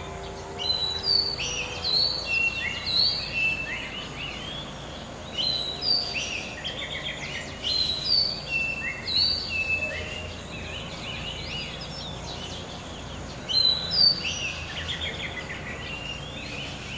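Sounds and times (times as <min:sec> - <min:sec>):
background hiss: 0:00.0 - 0:16.9
bird whistling song: 0:00.0 - 0:16.9.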